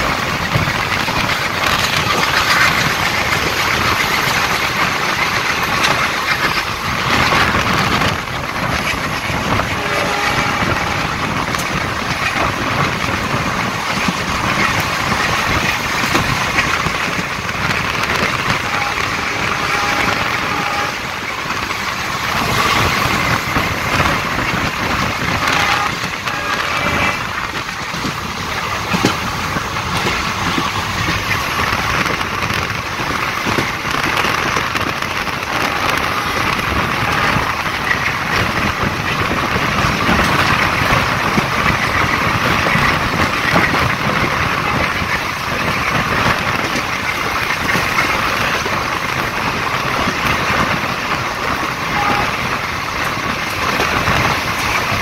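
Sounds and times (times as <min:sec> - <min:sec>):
train wheels running on rails: 0:00.0 - 0:55.0
wind rushing past train: 0:00.0 - 0:55.0.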